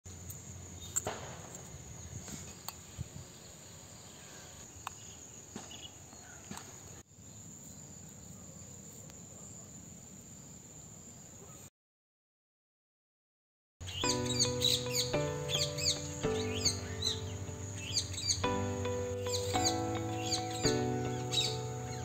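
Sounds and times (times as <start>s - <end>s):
insects chirping chorus: 0.1s - 11.6s, 13.8s - 22.0s.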